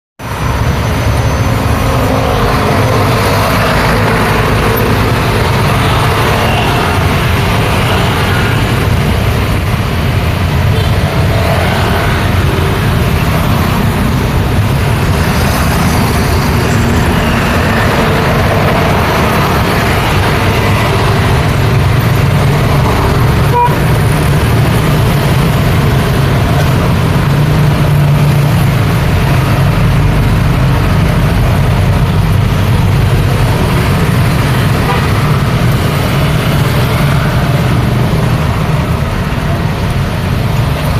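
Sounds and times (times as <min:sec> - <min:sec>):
busy road traffic: 0:00.2 - 0:40.9.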